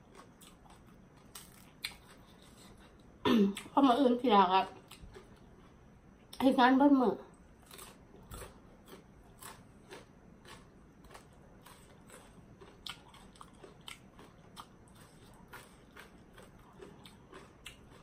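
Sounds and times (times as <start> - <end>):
chewing crunches: 0.0 - 3.7, 4.8 - 5.8, 7.6 - 18.0.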